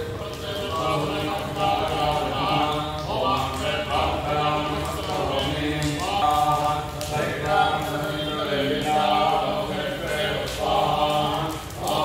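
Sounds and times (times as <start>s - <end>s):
person chanting mantras: 0.0s - 12.0s.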